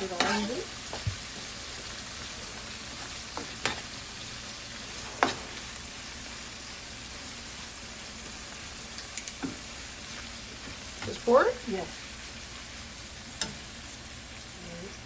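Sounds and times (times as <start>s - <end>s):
oil sizzling in a pot: 0.0s - 15.0s.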